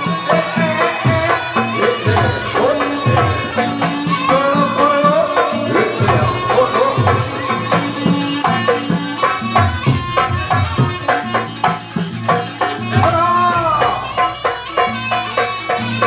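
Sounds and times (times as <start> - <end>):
gamelan music: 0.0 - 16.0
rapid hand-drum strokes: 0.0 - 16.0
ringing low metallic tones: 0.0 - 16.0.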